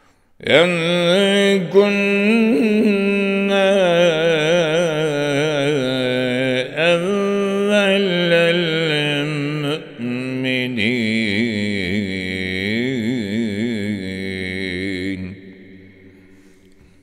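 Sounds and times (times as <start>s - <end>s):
man chanting melodically: 0.4s - 17.0s.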